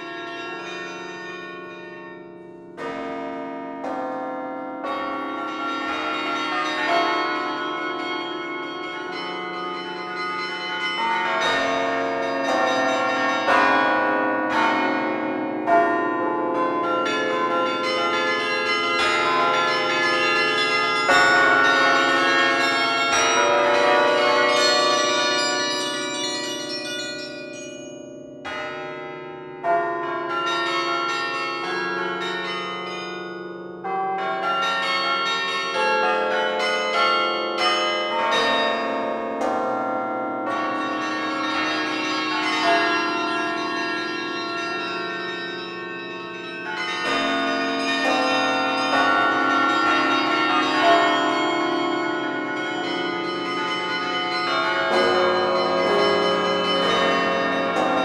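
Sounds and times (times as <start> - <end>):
carillon bells playing: 5.4 - 14.8, 15.6 - 28.8, 29.6 - 58.0.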